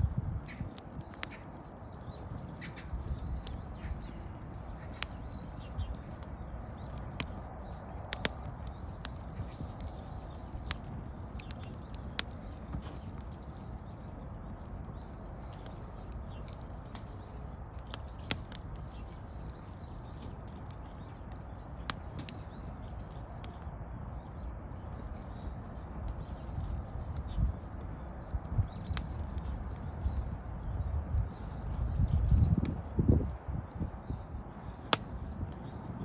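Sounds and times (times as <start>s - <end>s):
burning wood popping: 0.0s - 36.0s
wood fire crackling: 0.0s - 36.0s.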